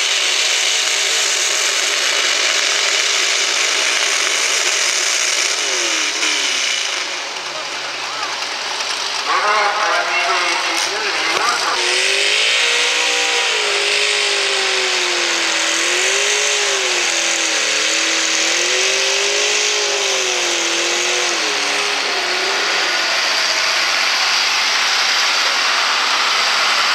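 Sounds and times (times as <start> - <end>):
truck engine revving under load: 0.0 - 26.9.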